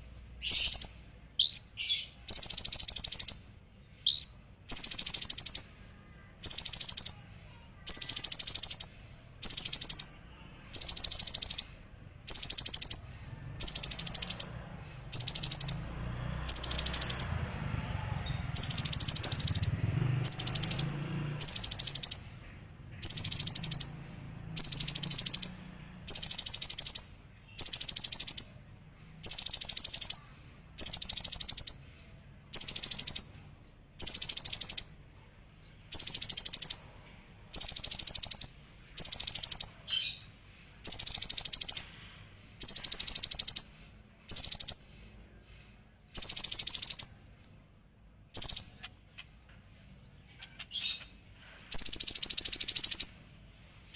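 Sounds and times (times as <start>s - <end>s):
bird buzzy rattling trill: 0.4s - 28.6s, 29.2s - 31.8s, 32.5s - 33.4s, 34.0s - 35.0s, 35.9s - 45.0s, 46.1s - 47.3s, 48.3s - 53.9s.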